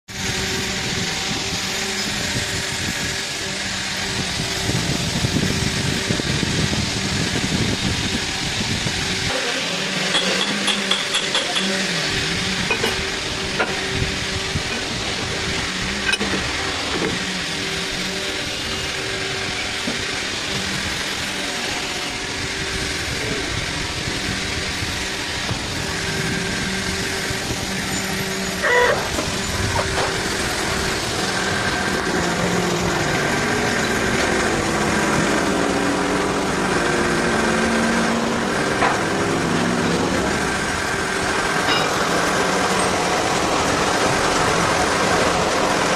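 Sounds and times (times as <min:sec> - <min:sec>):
lathe hum and whine: 0:00.1 - 0:45.9.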